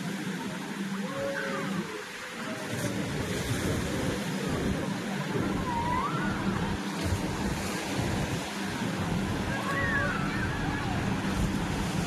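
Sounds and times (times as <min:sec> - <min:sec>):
water surging and washing: 0:00.0 - 0:12.0.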